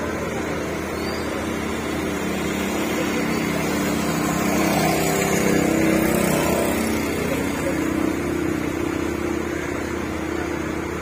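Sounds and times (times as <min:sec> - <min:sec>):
small boat motor running: 0:00.0 - 0:11.0.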